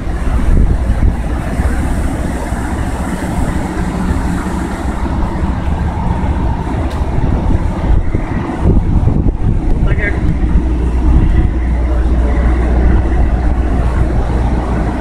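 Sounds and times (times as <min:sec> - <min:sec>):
low rumble of engines: 0:00.0 - 0:15.0
wind buffeting microphone: 0:00.0 - 0:15.0.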